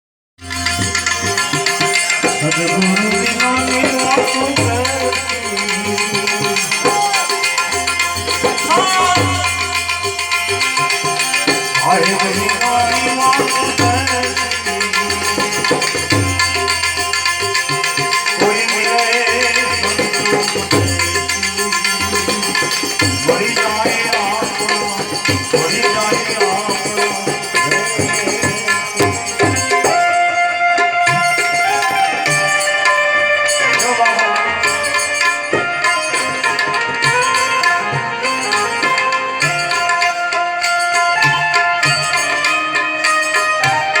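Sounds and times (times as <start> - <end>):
person singing devotional melody: 0.4 - 44.0
tabla drumming: 0.4 - 44.0.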